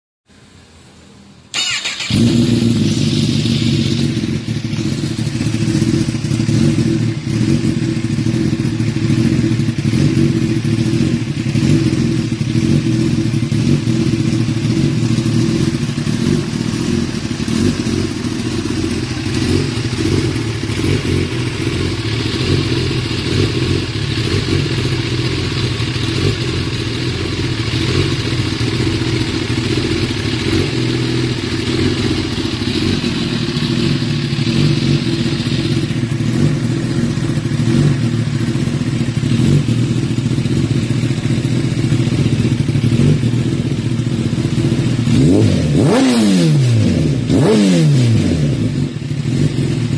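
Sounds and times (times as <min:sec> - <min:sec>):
motorcycle engine idling: 0:01.5 - 0:49.9.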